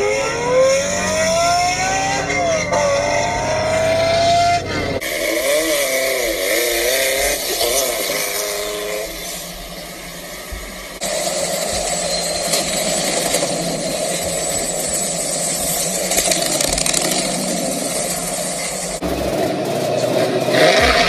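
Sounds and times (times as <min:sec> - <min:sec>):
sports car engine accelerating: 0:00.0 - 0:11.2, 0:12.4 - 0:21.0
van engine revving: 0:00.0 - 0:21.0.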